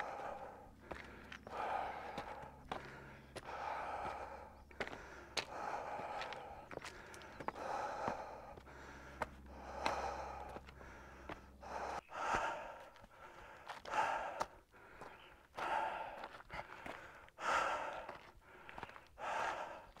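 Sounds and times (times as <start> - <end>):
boots clicking on loose rock: 0.0 - 20.0
person breathing hard: 0.0 - 20.0.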